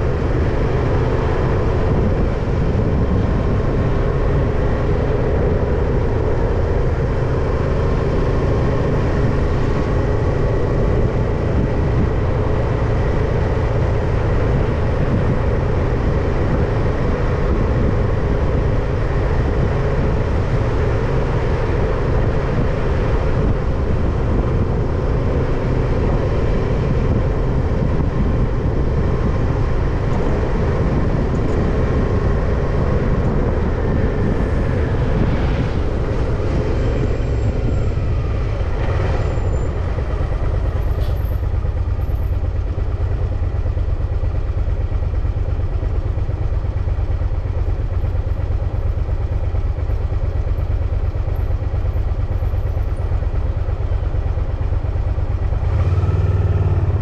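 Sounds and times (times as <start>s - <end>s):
bicycle road noise: 0.0s - 57.0s
motor traffic: 0.0s - 57.0s
wind rumble: 0.0s - 57.0s.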